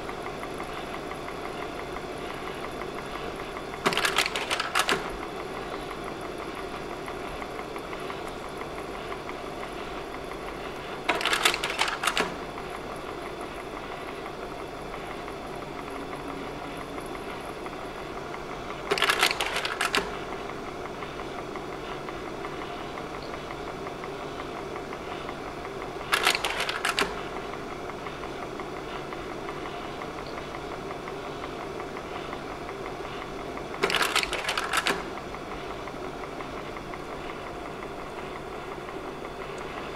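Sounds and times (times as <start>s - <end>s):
cooling fan humming: 0.0s - 39.9s.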